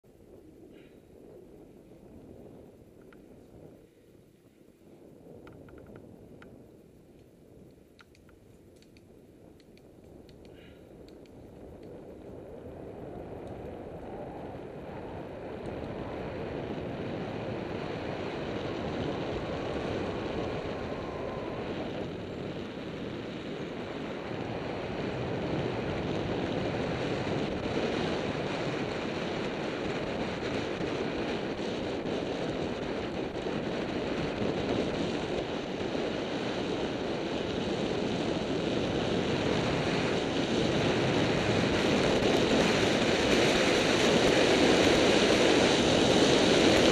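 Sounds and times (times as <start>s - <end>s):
wind rushing on microphone: 0.0s - 46.9s.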